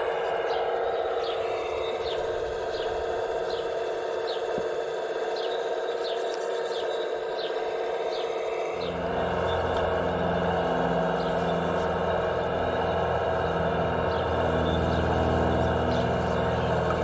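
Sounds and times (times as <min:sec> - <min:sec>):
electric motor and pump whine: 0:00.0 - 0:17.0.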